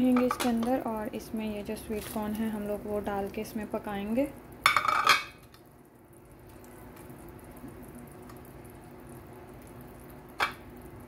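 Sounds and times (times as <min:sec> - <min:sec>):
broth simmering: 0:00.0 - 0:11.0
steady low hum: 0:00.0 - 0:11.0.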